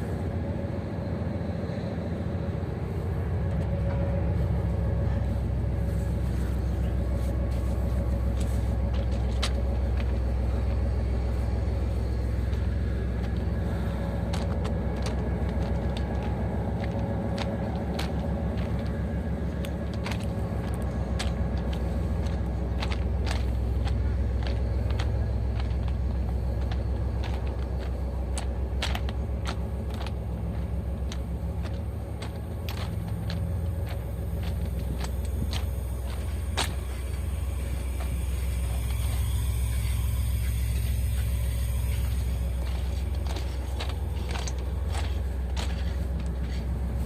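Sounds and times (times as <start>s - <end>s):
train engine drone: 0.0s - 47.0s.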